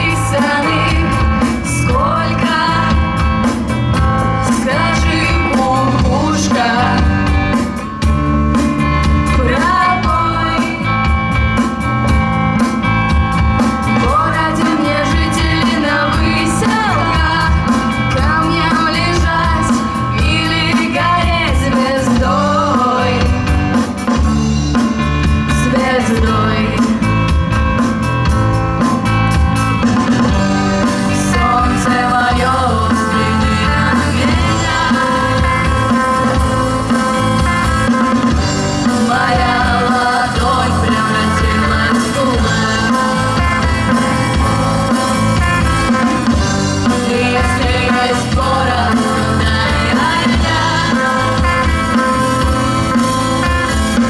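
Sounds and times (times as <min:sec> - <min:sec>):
rock band playing: 0:00.0 - 0:54.0.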